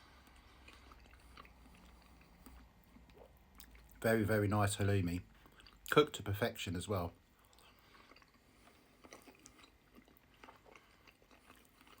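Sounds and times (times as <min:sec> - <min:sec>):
close chewing: 0:00.0 - 0:04.1, 0:05.2 - 0:06.1, 0:07.1 - 0:12.0.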